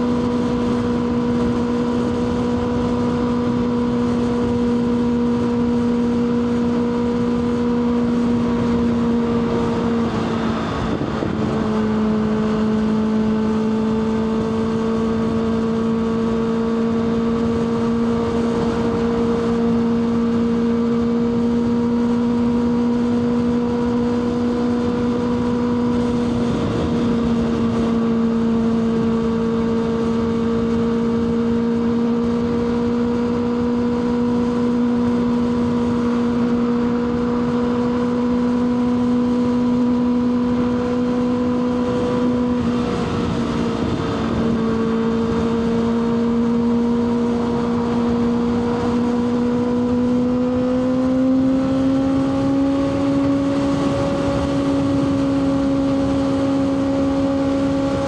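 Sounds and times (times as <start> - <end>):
motorcycle engine high-revving: 0.0 - 58.0.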